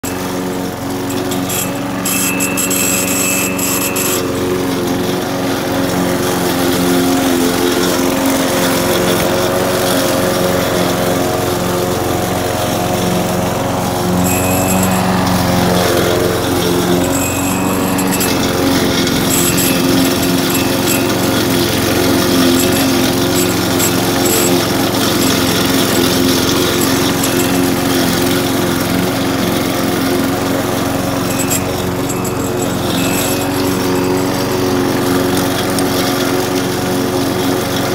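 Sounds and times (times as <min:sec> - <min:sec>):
lawnmower engine cutting grass: 0:00.0 - 0:37.9.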